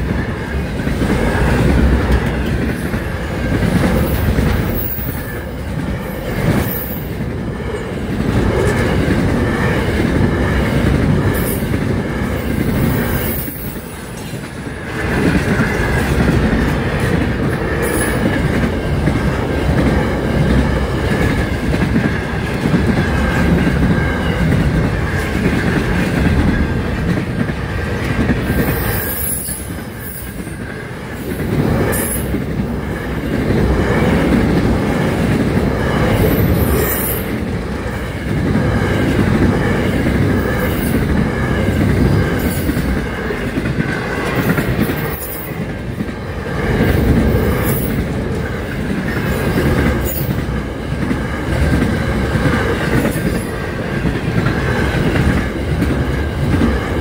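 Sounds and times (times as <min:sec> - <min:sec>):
freight train rumbling past: 0:00.0 - 0:57.0
train wheels clicking: 0:00.0 - 0:57.0.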